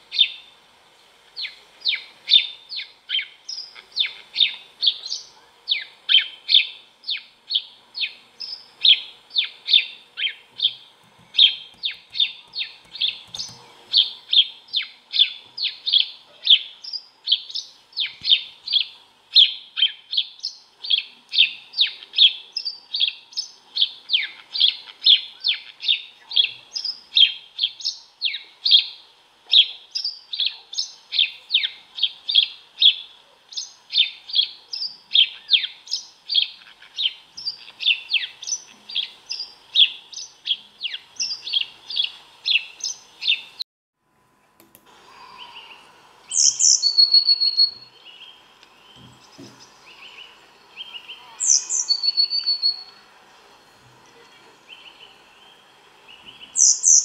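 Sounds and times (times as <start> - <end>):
sparrow chirping: 1.4 - 43.6, 46.3 - 53.0, 54.7 - 57.0.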